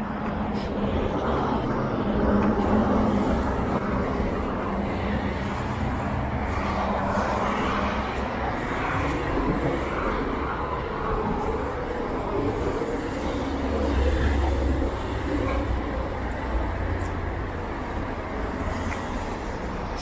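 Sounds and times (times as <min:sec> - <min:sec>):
traffic rumble and hiss: 0:00.0 - 0:20.0.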